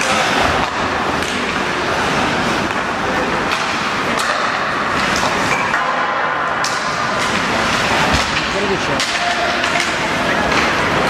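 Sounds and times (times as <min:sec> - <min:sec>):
crowd noise: 0:00.0 - 0:11.0
hockey sticks and puck clacking: 0:00.0 - 0:11.0.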